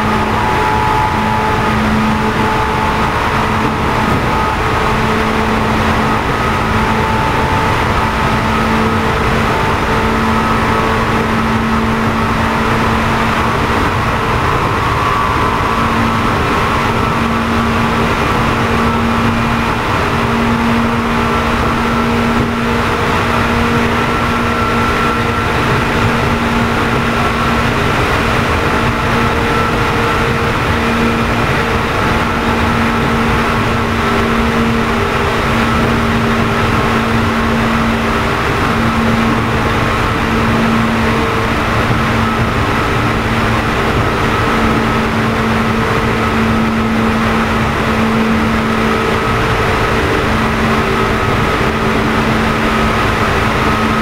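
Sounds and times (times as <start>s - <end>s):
train motor and fan hum: 0.0s - 54.0s
wheel and rail rumble: 0.0s - 54.0s.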